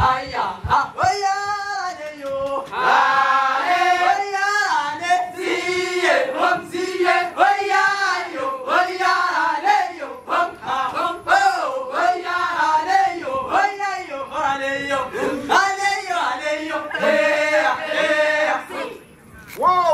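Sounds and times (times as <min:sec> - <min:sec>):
male voices singing in chorus: 0:00.0 - 0:19.0.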